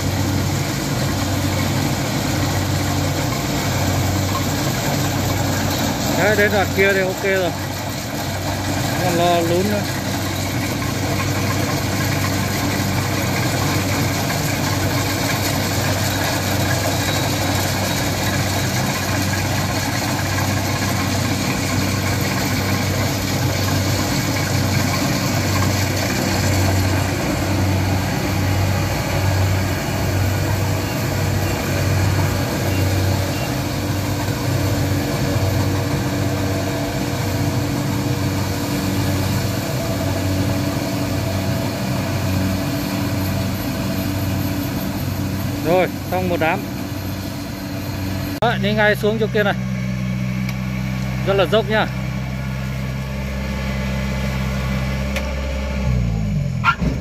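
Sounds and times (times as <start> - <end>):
combine harvester diesel engine hum: 0.0 - 57.0
rush of machinery noise: 0.0 - 57.0.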